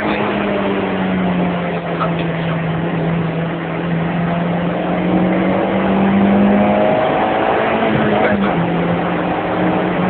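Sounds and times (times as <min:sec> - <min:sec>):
car engine running hard: 0:00.0 - 0:10.0
road and wind noise: 0:00.0 - 0:10.0.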